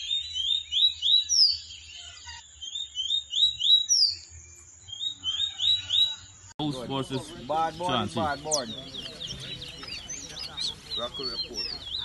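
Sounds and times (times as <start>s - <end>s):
bird song with rising chirps: 0.0s - 12.0s.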